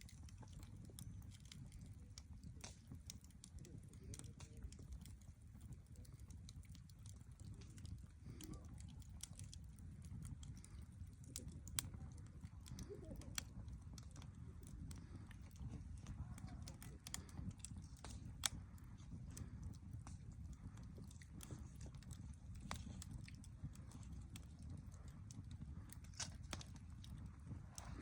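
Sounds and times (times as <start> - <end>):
campfire crackling: 0.0 - 28.0
low steady rumble: 0.0 - 28.0.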